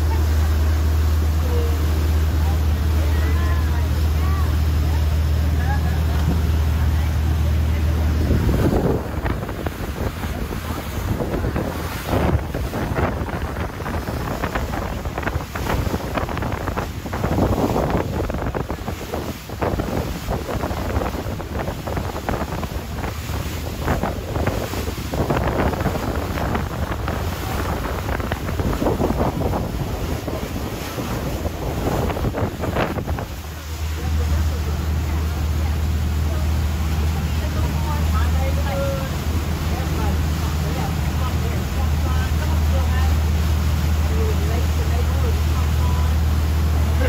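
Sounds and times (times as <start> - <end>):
boat engine drone: 0.0 - 47.0
water rushing past hull: 0.0 - 47.0
wind buffeting microphone: 0.0 - 47.0.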